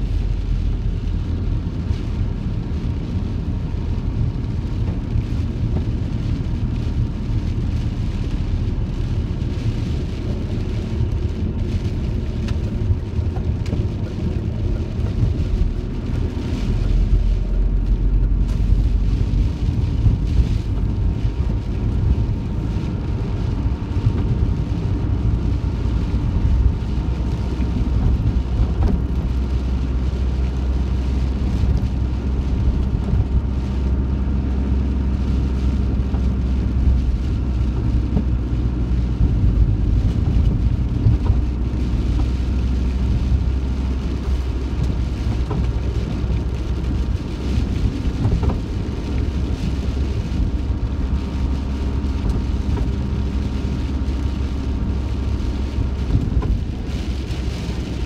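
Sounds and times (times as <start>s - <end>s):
engine and road rumble: 0.0s - 58.0s
heavy rain on vehicle roof: 0.0s - 58.0s.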